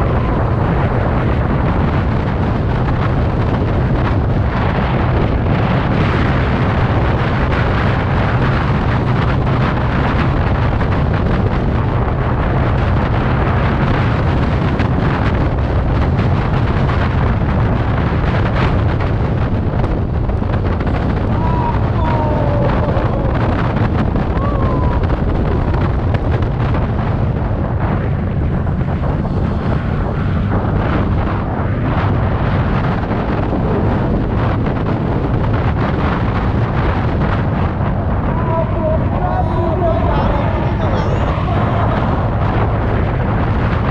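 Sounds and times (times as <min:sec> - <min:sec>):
scooter running and road noise: 0:00.0 - 0:43.9
wind buffeting microphone: 0:00.0 - 0:43.9.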